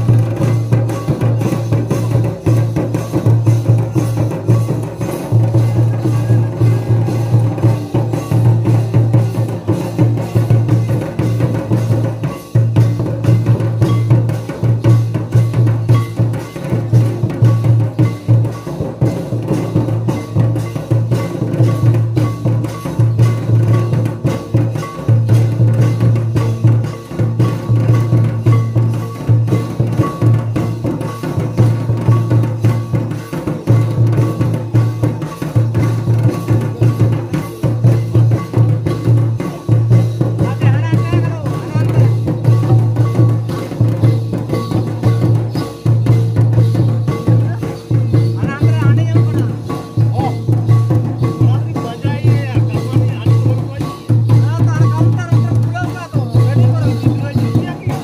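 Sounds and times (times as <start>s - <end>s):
hand drums beaten fast: 0.0s - 58.0s.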